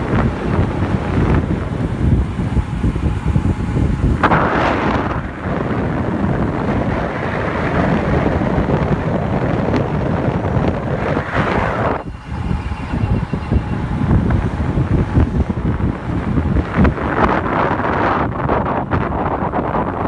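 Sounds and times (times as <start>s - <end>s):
bright rush of air: 0.0s - 18.8s
wind buffeting microphone: 0.0s - 20.0s.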